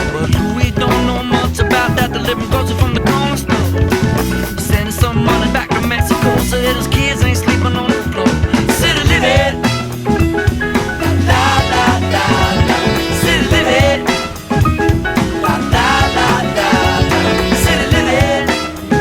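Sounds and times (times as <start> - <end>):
pop song with drums and vocals: 0.0 - 19.0.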